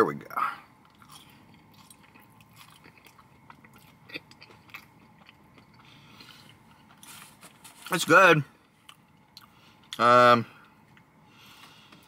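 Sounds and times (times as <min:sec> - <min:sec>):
person chewing with soft crunches: 0:00.6 - 0:08.0, 0:08.6 - 0:12.0.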